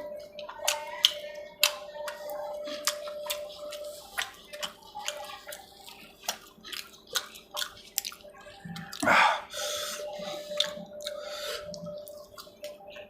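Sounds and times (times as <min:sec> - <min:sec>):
wet chewing and lip smacking: 0:00.0 - 0:13.0.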